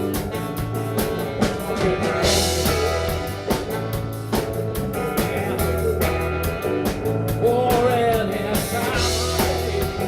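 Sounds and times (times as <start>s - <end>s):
drum kit beat: 0.0s - 10.0s
live rock band playing: 0.0s - 10.0s.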